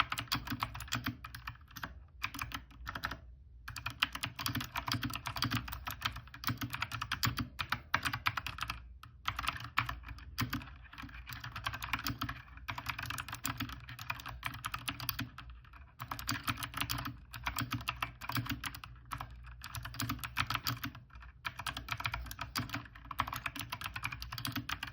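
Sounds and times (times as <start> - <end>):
fast typing on mechanical keyboard: 0.0 - 24.9.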